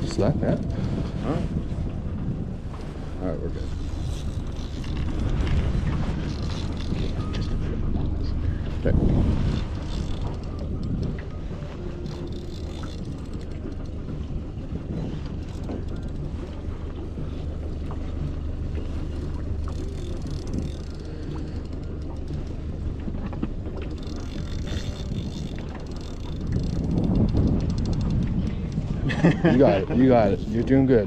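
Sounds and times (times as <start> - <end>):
boat motor running: 0.0 - 31.0
wind buffeting microphone: 0.0 - 31.0.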